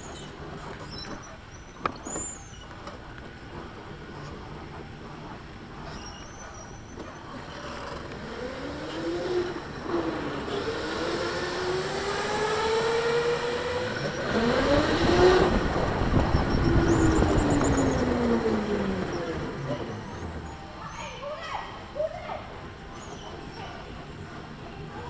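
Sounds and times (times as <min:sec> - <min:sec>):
electric go-kart motor whining: 0:00.0 - 0:21.3
tyre and track noise: 0:00.0 - 0:25.0.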